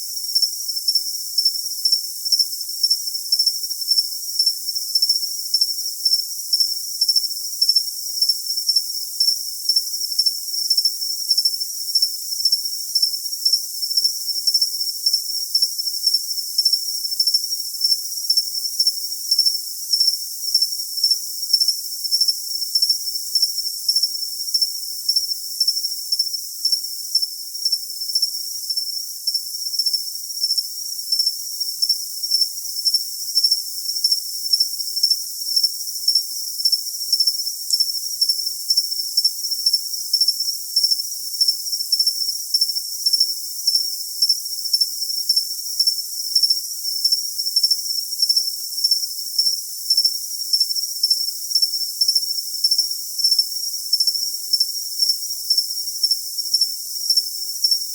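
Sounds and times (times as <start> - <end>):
cricket chirping: 0.0 - 57.9.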